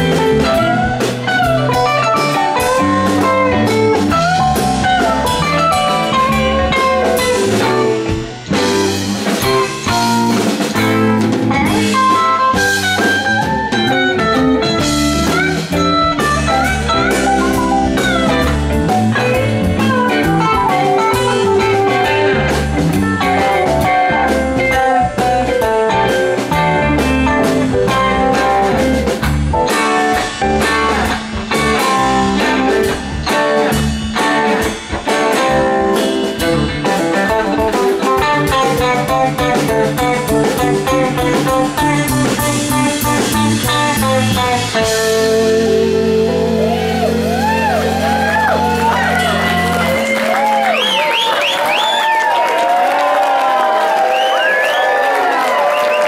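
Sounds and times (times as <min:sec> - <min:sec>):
electric guitar lead lines: 0:00.0 - 0:51.9
drum kit: 0:00.0 - 0:56.0.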